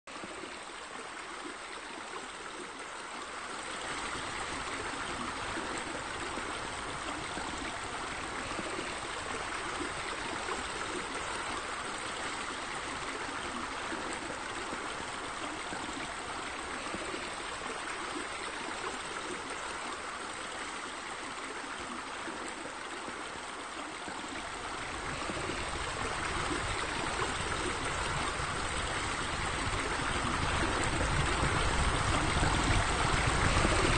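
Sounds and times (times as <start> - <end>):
running water: 0.1 - 33.9.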